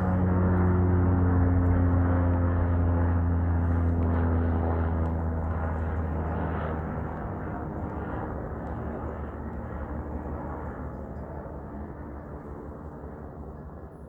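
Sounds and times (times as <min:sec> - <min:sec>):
low engine-like drone: 0:00.0 - 0:14.0.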